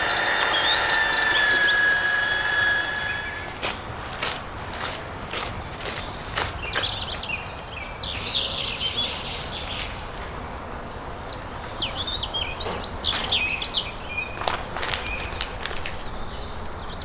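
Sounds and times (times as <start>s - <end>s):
small birds chirping: 0.0s - 17.0s
steady outdoor hiss: 0.0s - 17.0s.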